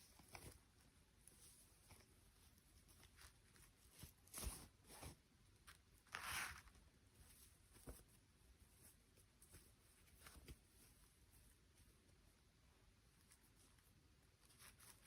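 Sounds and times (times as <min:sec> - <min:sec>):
handling rustles: 0:00.0 - 0:12.2.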